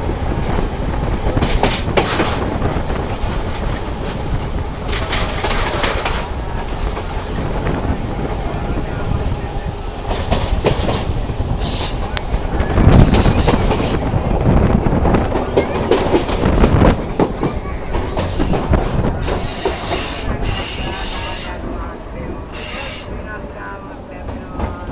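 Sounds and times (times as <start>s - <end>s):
train running on track: 0.0s - 24.9s.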